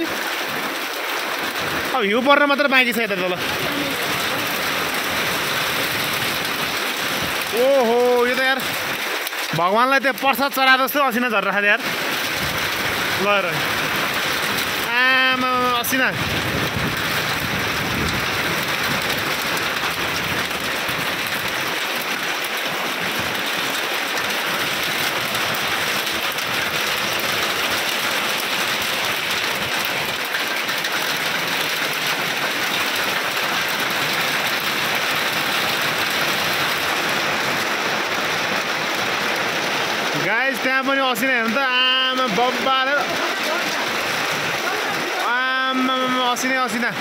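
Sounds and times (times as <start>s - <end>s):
heavy rain and hail on concrete: 0.0s - 47.0s.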